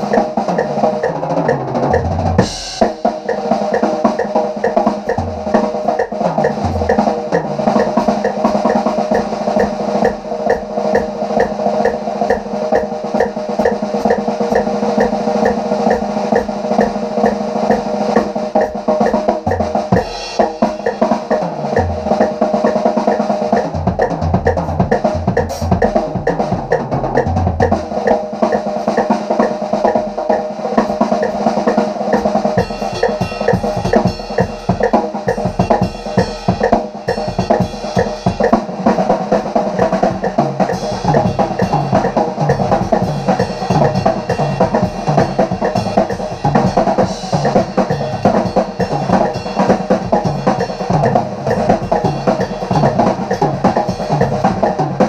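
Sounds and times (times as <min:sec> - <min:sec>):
drum kit playing fast: 0:00.0 - 0:55.0.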